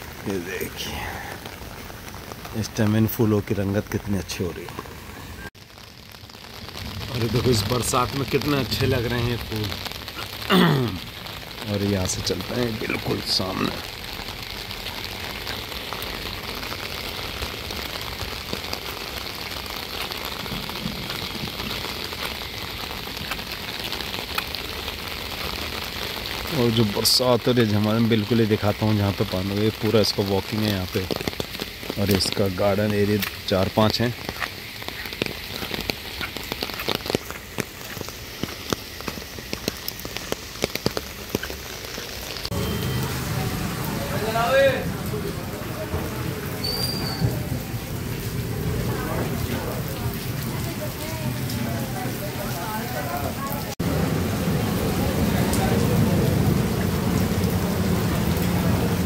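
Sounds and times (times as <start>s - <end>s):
heavy rain falling: 0.0s - 59.0s
raindrop taps: 5.8s - 59.0s.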